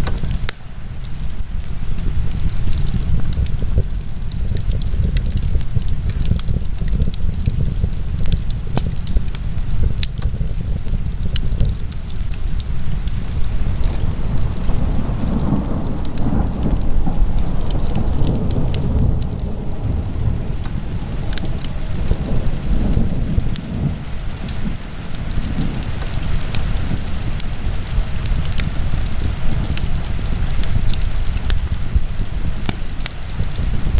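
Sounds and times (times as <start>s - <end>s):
wood fire burning with crackles: 0.0s - 33.9s.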